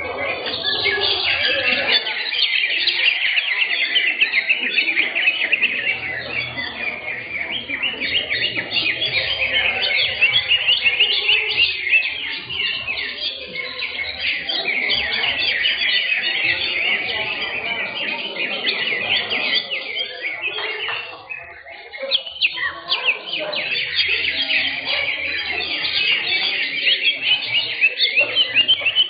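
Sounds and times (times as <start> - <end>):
birds chirping and trilling: 0.0 - 29.0.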